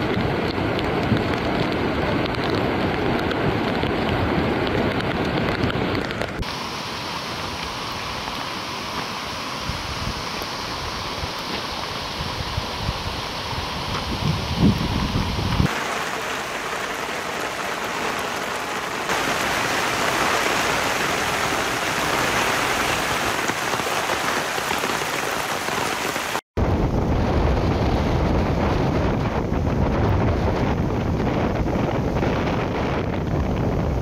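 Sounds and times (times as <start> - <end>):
gusting wind on microphone: 0.0 - 34.0
heavy rain: 0.0 - 34.0
runoff water rushing: 0.0 - 34.0.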